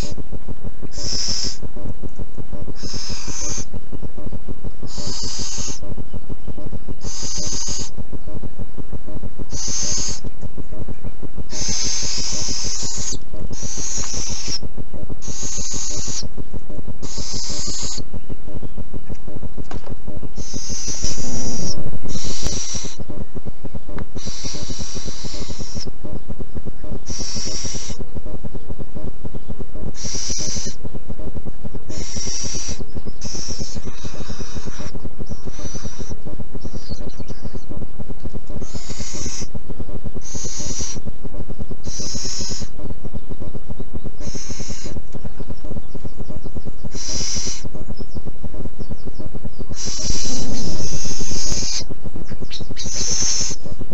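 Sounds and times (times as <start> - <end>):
owl chicks hissing begging calls: 0.0 - 53.9
steady low rumble: 0.0 - 53.9.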